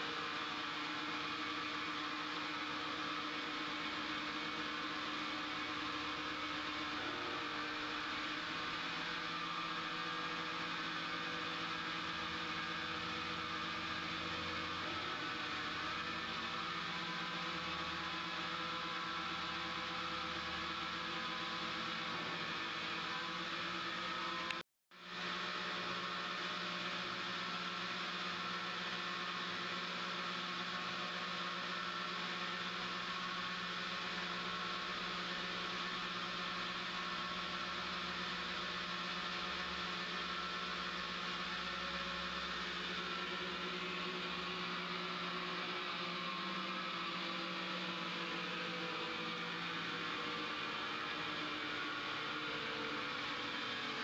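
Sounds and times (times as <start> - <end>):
lathe machine whirring hum: 0.0 - 54.0.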